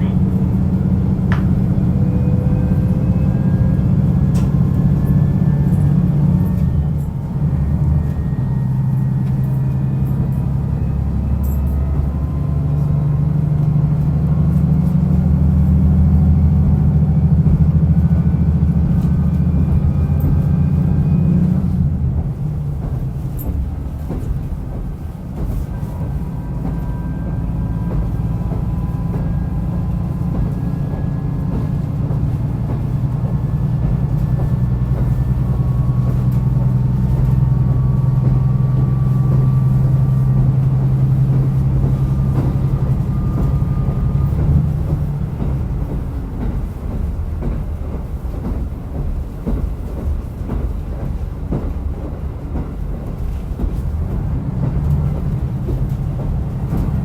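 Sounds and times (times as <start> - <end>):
diesel railcar engine: 0.0 - 57.0.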